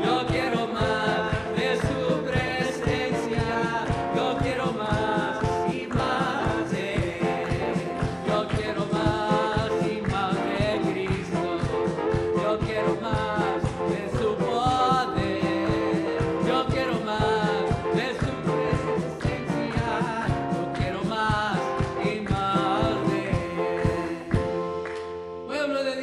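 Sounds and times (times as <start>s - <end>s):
person singing: 0.0s - 24.8s
steady beat: 0.0s - 25.0s
electric guitar: 0.0s - 25.6s
keyboard: 0.0s - 26.0s.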